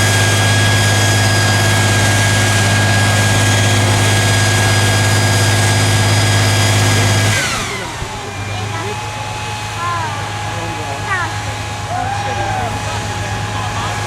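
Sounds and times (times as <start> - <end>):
diesel engine deep hum: 0.0 - 14.0
high steady whine: 0.0 - 14.0.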